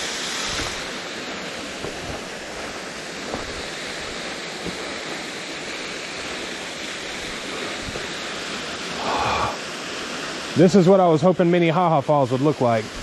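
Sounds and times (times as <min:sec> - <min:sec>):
waterfall rushing onto rocks: 0:00.0 - 0:13.0.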